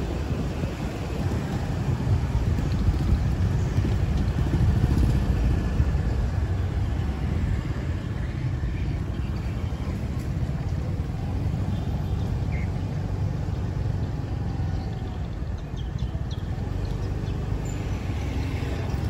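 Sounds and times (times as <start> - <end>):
motorbikes running in traffic: 0.0 - 19.0
wind buffeting microphone: 0.0 - 19.0.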